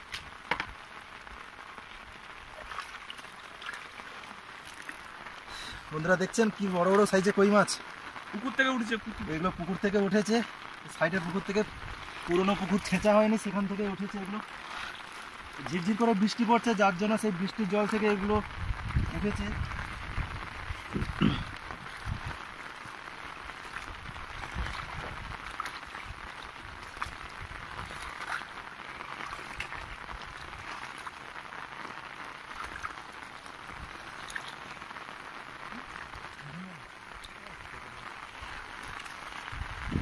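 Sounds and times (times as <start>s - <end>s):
rain falling on field: 0.0s - 40.0s
raindrops ticking: 0.0s - 40.0s.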